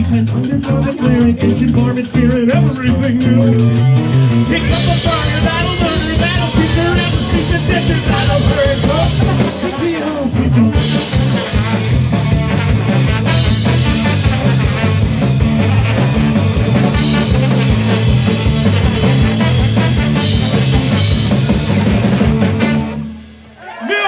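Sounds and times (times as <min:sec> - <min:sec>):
bass line: 0:00.0 - 0:23.5
ska-punk band playing live: 0:00.0 - 0:24.0
horn section: 0:00.9 - 0:24.0.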